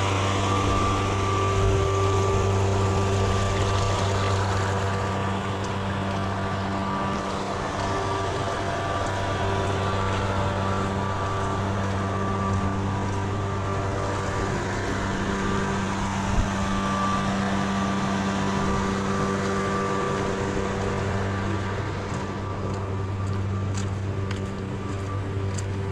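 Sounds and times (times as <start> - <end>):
steady motor-like hum: 0.0 - 25.9.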